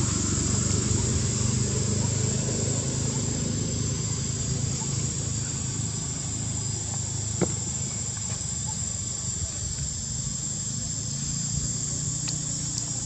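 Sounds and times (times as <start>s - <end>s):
high-pitched insect drone: 0.0s - 13.0s
low steady rumble: 0.0s - 13.0s.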